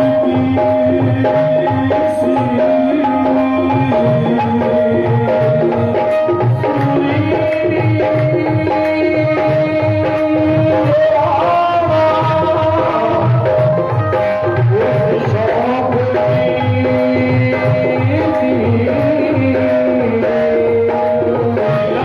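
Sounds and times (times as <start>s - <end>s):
hand drum beat: 0.0s - 22.0s
harmonium chords: 0.0s - 22.0s.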